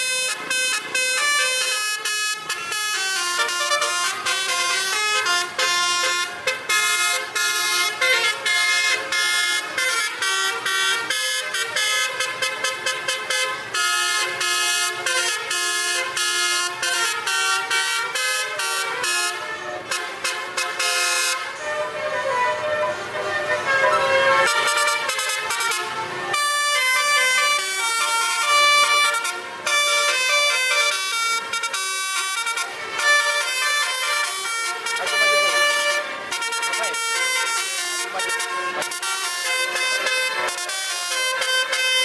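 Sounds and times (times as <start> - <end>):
musical truck horns playing melody: 0.0 - 42.0.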